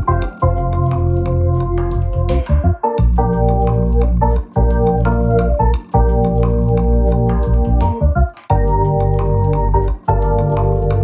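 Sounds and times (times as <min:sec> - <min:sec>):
keyboard tune over a beat: 0:00.0 - 0:11.0.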